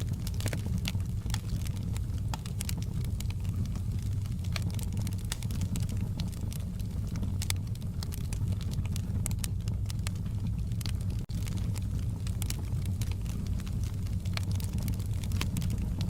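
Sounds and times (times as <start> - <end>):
fire low rumble: 0.0 - 16.0
wood fire pops and snaps: 0.0 - 16.0.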